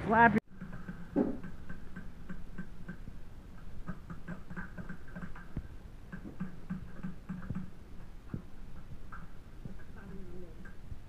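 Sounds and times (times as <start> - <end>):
distant paintball guns popping: 0.5 - 10.0.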